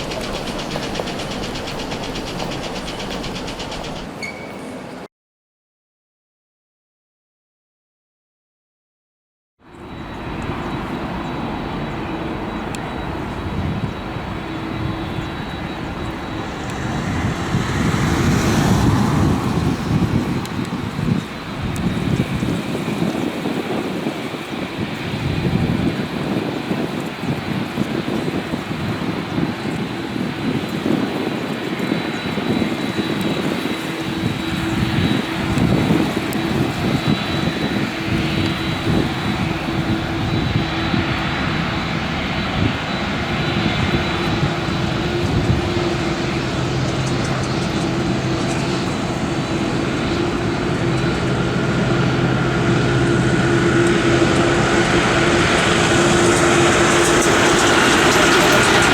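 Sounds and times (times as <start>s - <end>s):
jet engines rumbling: 0.0s - 5.1s, 9.8s - 58.9s.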